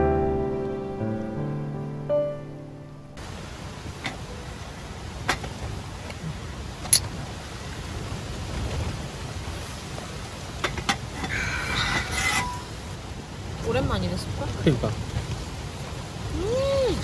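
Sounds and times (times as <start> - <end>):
wind buffeting microphone: 3.2 - 17.0.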